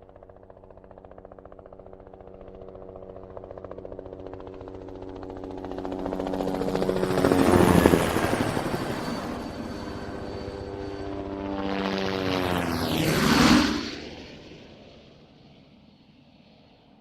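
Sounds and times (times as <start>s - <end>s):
helicopter rotor chop: 0.0s - 14.8s.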